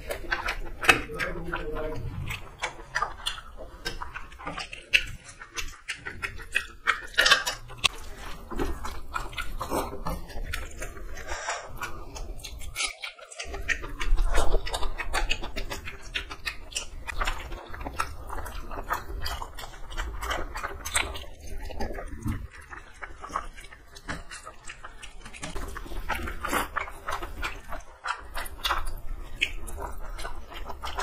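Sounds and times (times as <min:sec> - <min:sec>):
people chewing food: 0:00.0 - 0:31.0.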